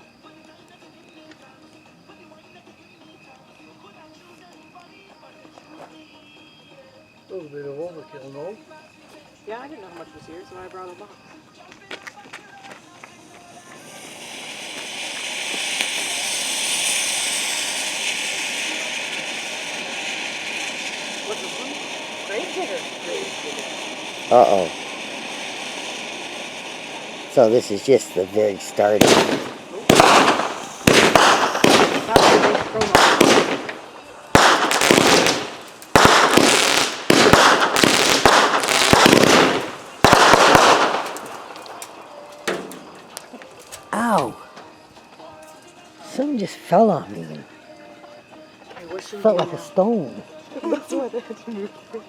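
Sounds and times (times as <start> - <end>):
firework fountain hissing: 0.0 - 52.0.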